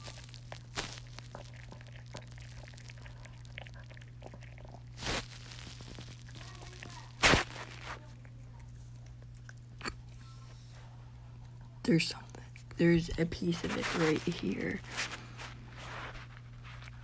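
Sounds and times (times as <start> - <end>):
dog chewing crunchy treat: 0.0 - 17.0.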